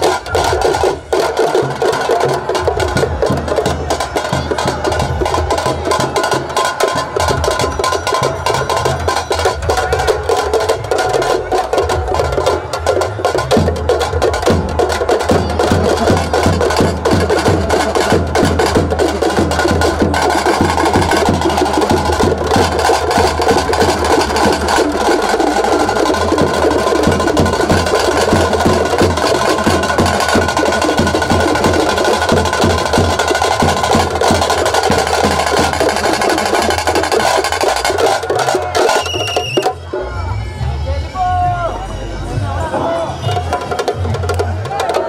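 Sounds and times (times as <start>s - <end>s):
loud fast drumming music: 0.0s - 40.1s, 42.4s - 45.0s.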